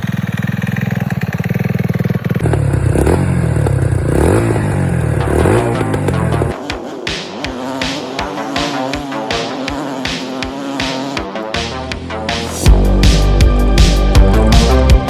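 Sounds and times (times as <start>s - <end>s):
atv engine idling and revving: 0.0s - 15.0s.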